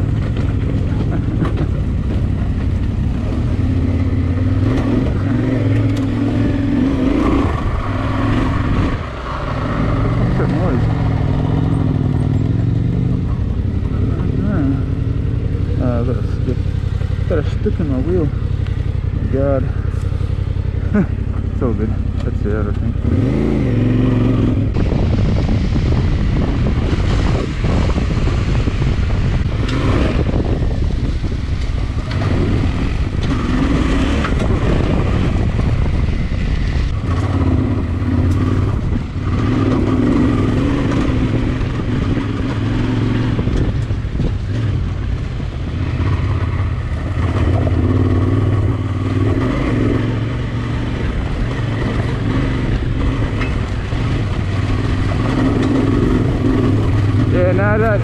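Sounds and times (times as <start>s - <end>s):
motorcycle engine running: 0.0s - 58.0s
wind rushing: 2.8s - 18.1s, 22.9s - 58.0s.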